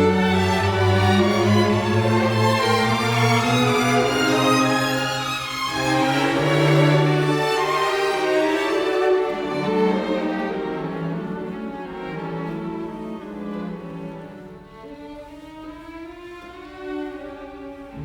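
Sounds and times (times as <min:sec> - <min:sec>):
violin and cello music: 0:00.0 - 0:18.0.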